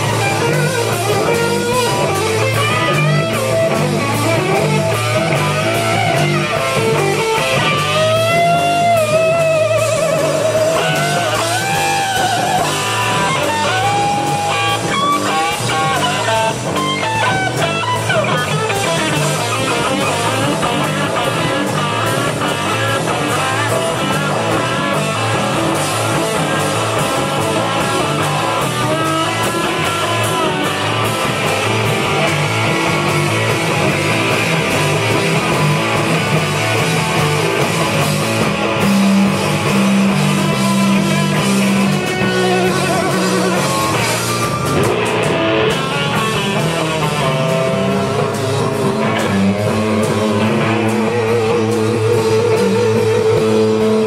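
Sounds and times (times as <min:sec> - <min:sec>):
amplified electric guitar: 0:00.0 - 0:54.0
live rock band playing: 0:00.0 - 0:54.0.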